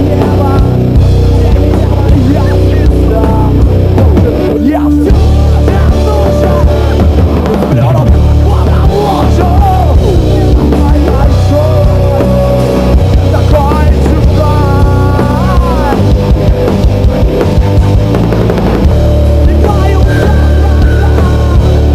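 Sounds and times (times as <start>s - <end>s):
person singing: 0.0s - 16.3s, 18.9s - 21.9s
heavy rock band playing: 0.0s - 21.9s.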